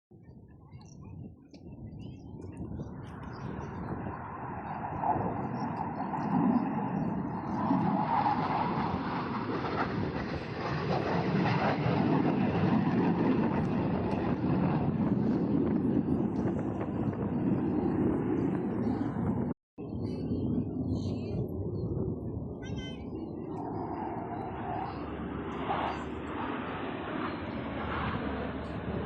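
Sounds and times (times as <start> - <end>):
aircraft engine rush: 0.2 - 29.0.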